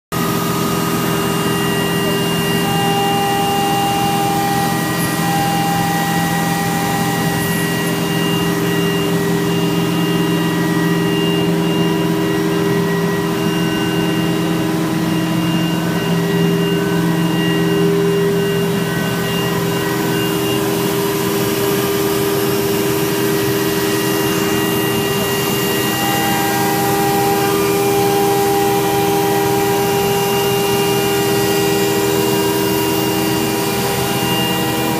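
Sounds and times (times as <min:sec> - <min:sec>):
router spindle whining: 0:00.2 - 0:34.9.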